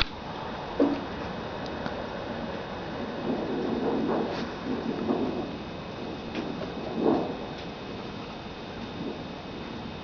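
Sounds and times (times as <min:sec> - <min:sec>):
high wind gusting: 0:00.0 - 0:10.0.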